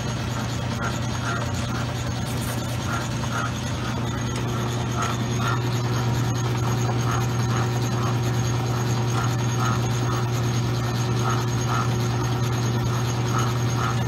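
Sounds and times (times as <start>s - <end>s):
metal lathe motor hum: 0.0s - 14.0s.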